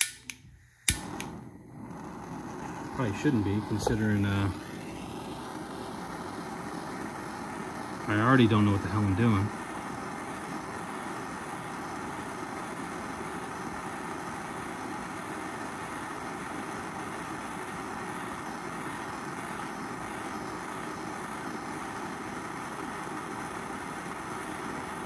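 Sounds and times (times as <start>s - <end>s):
torch flame hissing: 0.0s - 25.0s.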